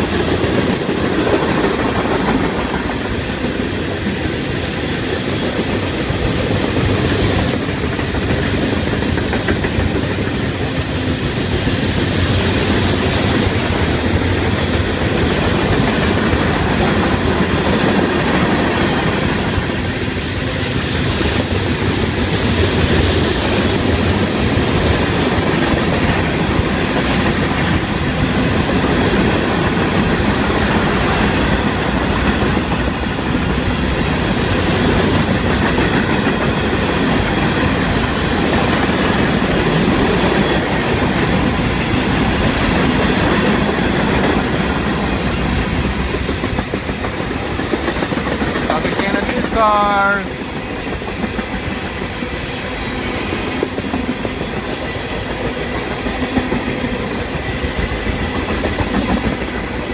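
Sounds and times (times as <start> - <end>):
steel wheels running on rail: 0.0 - 59.9.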